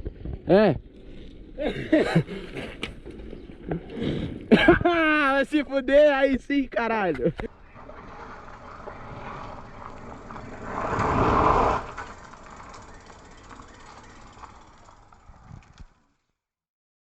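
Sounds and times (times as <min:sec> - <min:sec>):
bike tyres rolling on pavement: 0:00.0 - 0:16.5.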